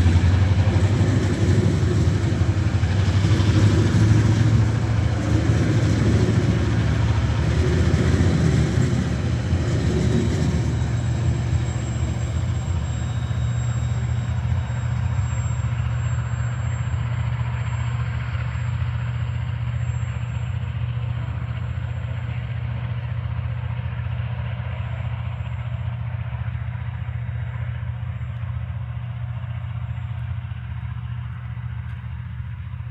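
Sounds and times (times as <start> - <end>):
train wagons rolling on rails: 0.0 - 32.9.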